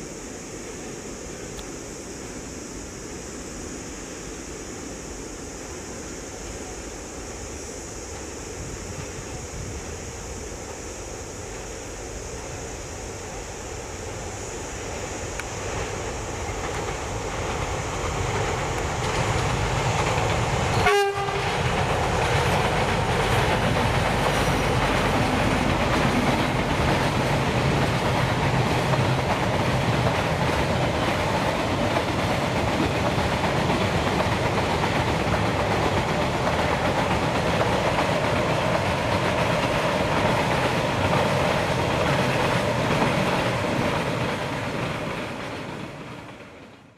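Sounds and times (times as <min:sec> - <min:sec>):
freight train rumbling past: 0:03.0 - 0:46.9.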